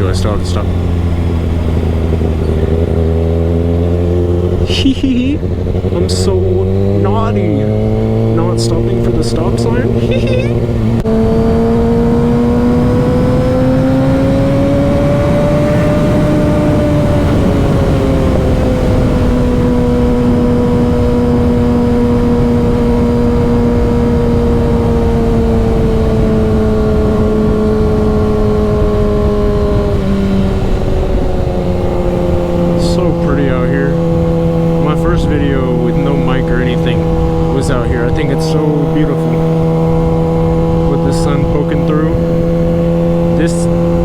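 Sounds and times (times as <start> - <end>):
motorcycle engine riding: 0.0 - 44.0
wind and road noise: 0.0 - 44.0.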